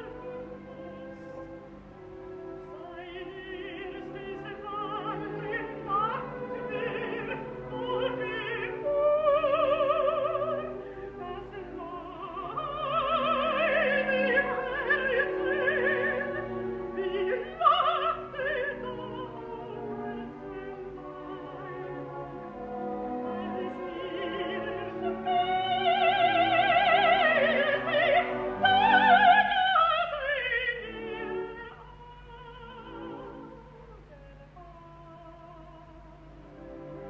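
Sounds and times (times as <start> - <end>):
woman singing opera: 0.0 - 1.7, 2.4 - 37.0
full orchestra: 0.0 - 37.0.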